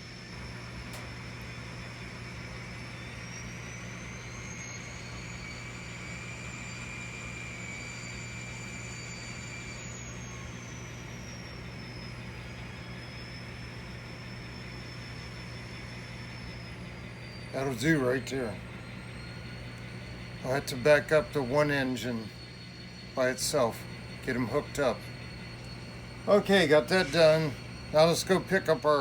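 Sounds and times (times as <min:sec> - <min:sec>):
model train motor whine: 0:00.0 - 0:29.0
steady low hum: 0:00.0 - 0:29.0.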